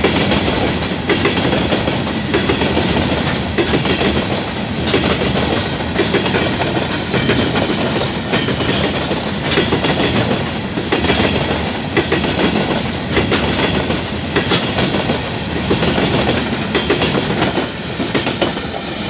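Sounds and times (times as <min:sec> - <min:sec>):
freight train rumble: 0:00.0 - 0:19.0
train wheels clattering on rails: 0:00.0 - 0:19.0.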